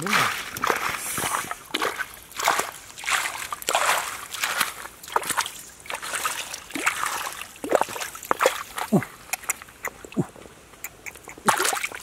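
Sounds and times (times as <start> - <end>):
stream water splashing: 0.0 - 12.0.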